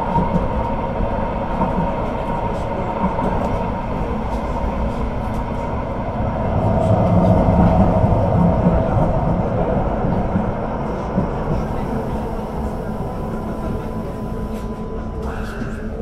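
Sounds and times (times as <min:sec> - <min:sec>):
light rail car rumbling on track: 0:00.0 - 0:16.0.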